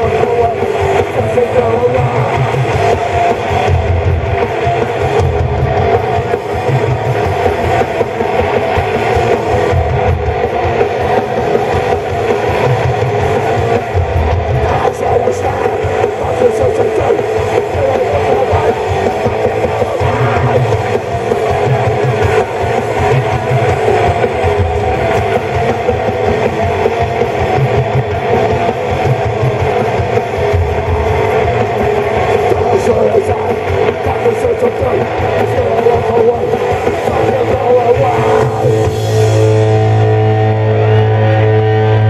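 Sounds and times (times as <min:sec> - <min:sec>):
live punk band: 0:00.0 - 0:42.0.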